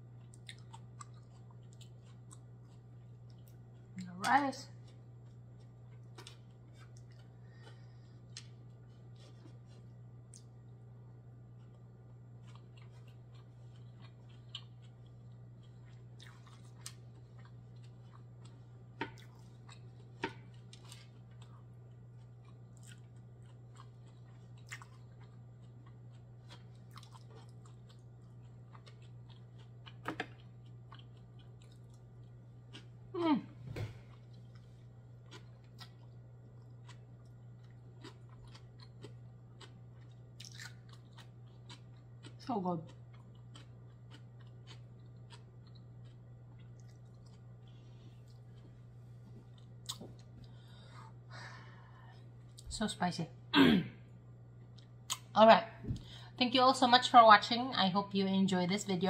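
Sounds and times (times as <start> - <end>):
person chewing: 0.0 - 4.0, 4.8 - 10.8, 11.4 - 33.1, 34.0 - 52.7, 54.5 - 55.3.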